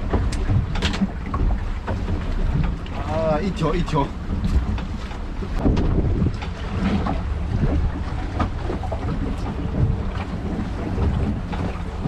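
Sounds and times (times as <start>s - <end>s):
boat engine running: 0.0s - 12.0s
knocks and splashes: 0.0s - 12.0s
wind buffeting microphone: 0.0s - 12.0s.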